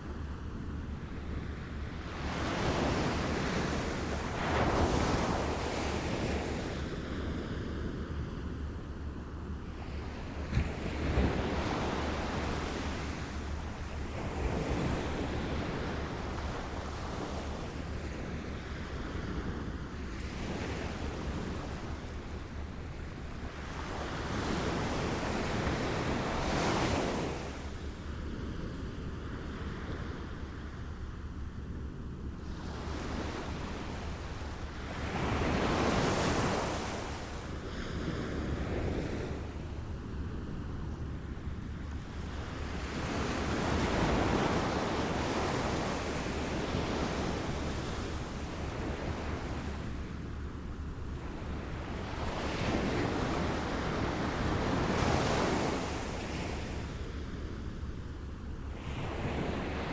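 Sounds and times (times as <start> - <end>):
small waves lapping at shore: 0.0 - 8.0, 9.6 - 31.3, 31.9 - 40.6, 41.2 - 59.9.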